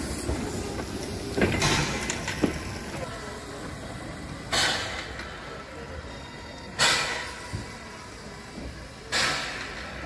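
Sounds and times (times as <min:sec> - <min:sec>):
people's voices: 0:00.0 - 0:10.0
steam locomotive hissing: 0:00.0 - 0:10.0.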